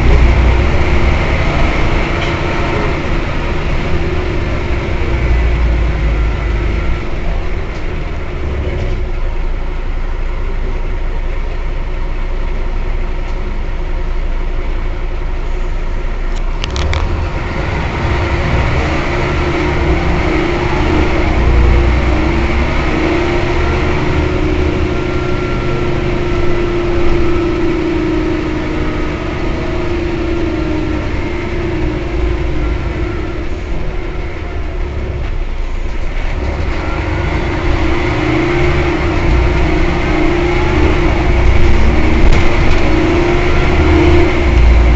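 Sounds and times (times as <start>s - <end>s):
bus engine rumble: 0.0s - 44.9s.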